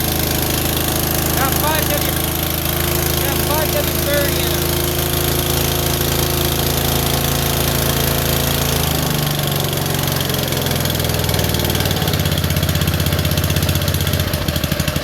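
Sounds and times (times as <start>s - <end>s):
snowblower engine chugging: 0.0s - 15.0s.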